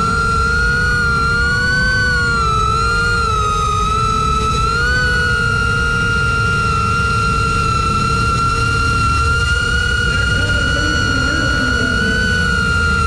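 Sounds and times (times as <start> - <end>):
low rumbling noise: 0.0 - 13.0
quadcopter motors whining: 0.0 - 13.0.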